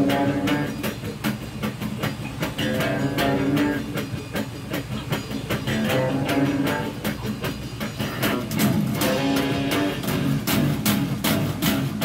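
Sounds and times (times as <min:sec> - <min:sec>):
electric bass guitar riff: 0:00.0 - 0:12.0
generators running: 0:00.0 - 0:12.0.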